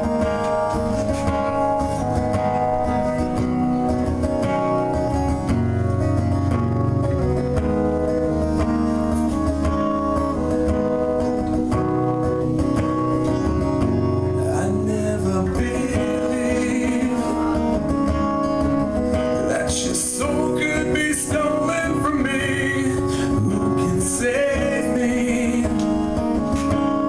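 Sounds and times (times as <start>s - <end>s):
acoustic guitar picking and strumming: 0.0s - 27.0s.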